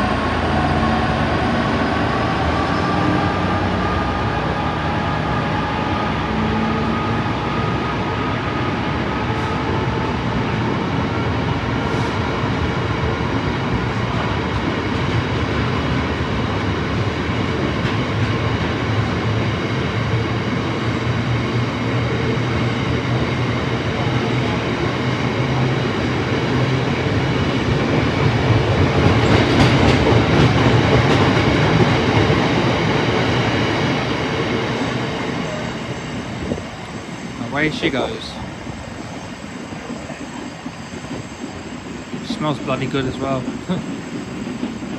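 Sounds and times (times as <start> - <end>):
diesel locomotive engine running: 0.0 - 44.9.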